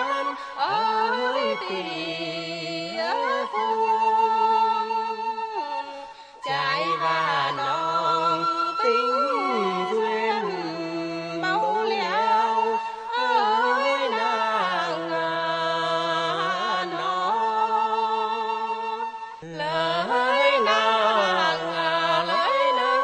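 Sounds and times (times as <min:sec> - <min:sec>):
person singing wavering vowels: 0:00.0 - 0:23.0.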